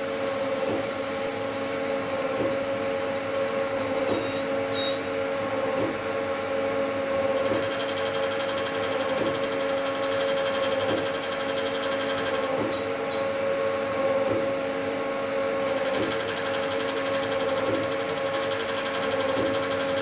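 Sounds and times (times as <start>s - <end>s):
lathe machine whine: 0.0s - 20.0s.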